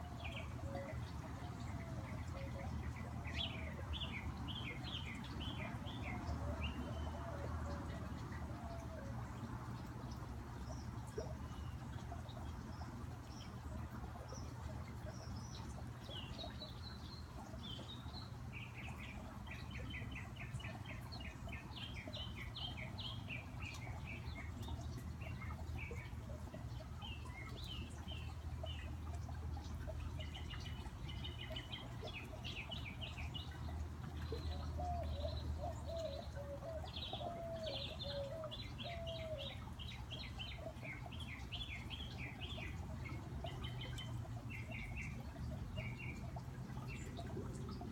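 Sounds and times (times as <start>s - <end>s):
garden fountain: 0.0s - 47.9s
songbirds chirping: 0.0s - 47.9s.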